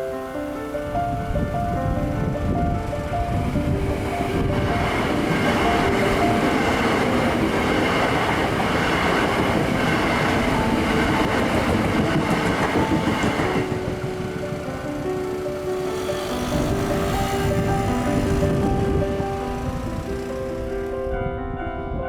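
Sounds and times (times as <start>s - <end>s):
train wheels rumbling on rails: 0.0s - 21.2s.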